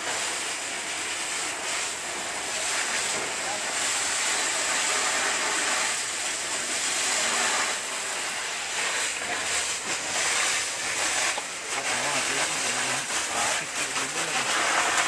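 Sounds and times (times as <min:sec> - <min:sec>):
water spraying from fire hoses: 0:00.0 - 0:15.0.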